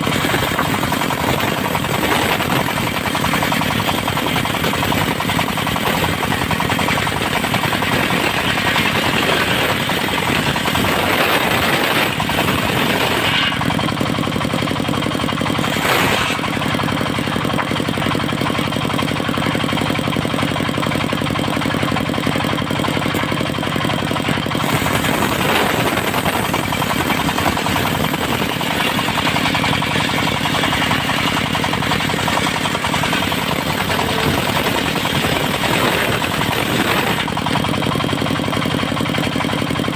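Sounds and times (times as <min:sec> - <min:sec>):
portable sawmill engine chattering: 0:00.0 - 0:39.9.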